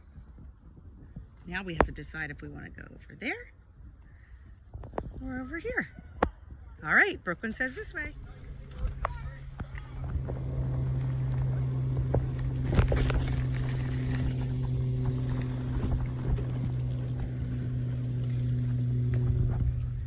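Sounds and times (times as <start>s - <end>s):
bicycle riding hum: 0.0s - 20.0s
rolling and wind noise: 0.0s - 20.0s.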